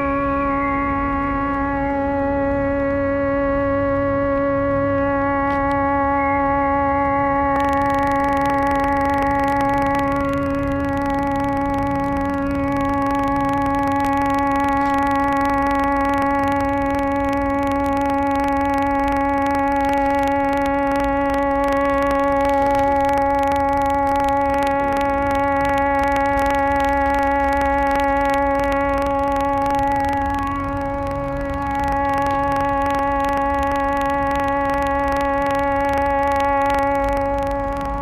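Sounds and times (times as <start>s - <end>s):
steady monotone drone: 0.0s - 38.0s.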